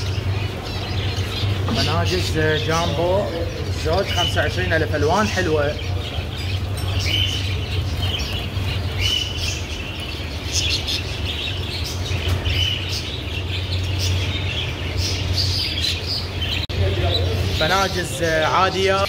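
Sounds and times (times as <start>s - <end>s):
finches chirping: 0.0s - 19.0s
steady low hum: 0.0s - 19.0s.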